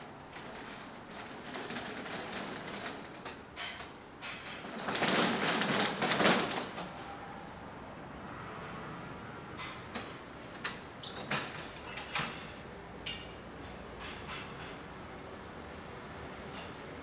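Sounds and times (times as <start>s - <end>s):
low street background: 0.0s - 17.0s.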